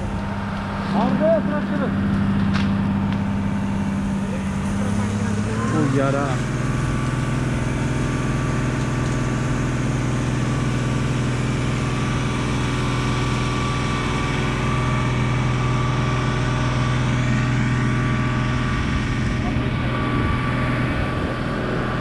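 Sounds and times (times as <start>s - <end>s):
fire truck engine humming: 0.0s - 22.0s.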